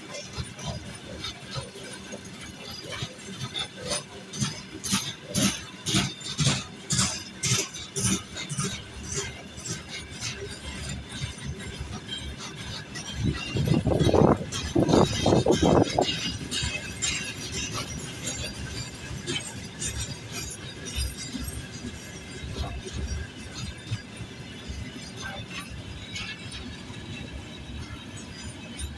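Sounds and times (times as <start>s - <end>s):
freight train rolling slowly: 0.0s - 28.9s
metallic clinks and knocks of wagons: 0.0s - 28.9s.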